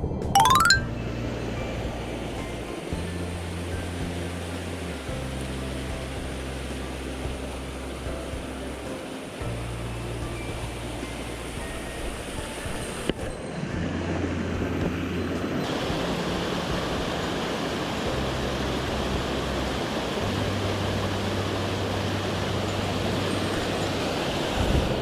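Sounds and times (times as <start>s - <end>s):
low background music: 0.0s - 25.0s
mountain stream rushing: 1.4s - 25.0s.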